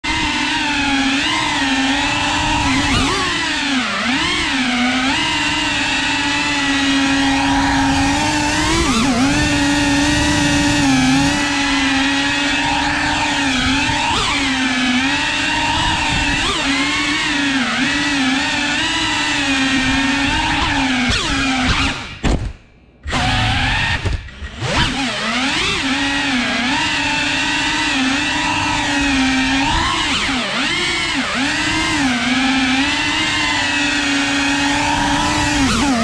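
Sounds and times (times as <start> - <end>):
drone propellers whining: 0.0 - 22.2, 23.0 - 36.0.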